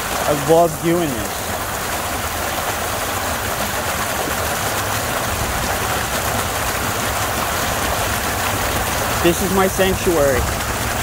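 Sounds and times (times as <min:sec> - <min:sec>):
water rushing out of pipe: 0:00.0 - 0:11.0.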